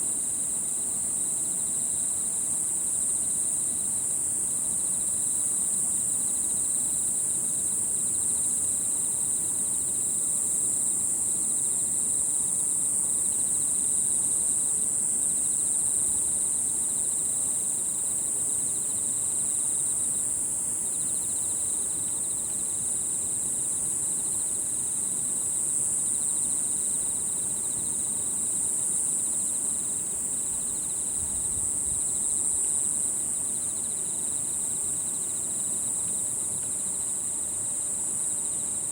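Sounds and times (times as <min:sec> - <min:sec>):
lower pulsed insect trill: 0:00.0 - 0:38.9.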